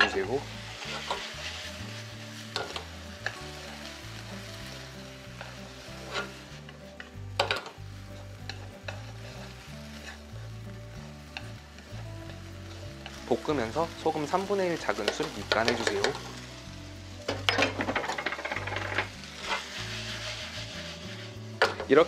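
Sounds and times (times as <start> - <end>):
food sizzling in a frying pan: 0.0 - 22.0
soft background music: 0.0 - 22.0.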